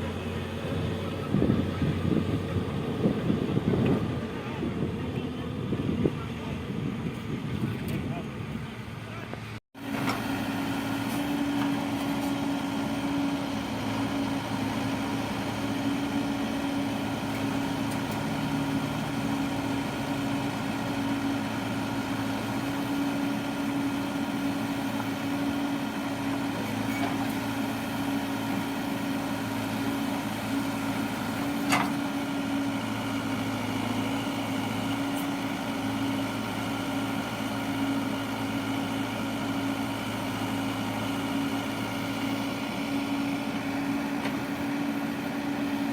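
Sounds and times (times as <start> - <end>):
heavy machine engine running: 0.0 - 45.9.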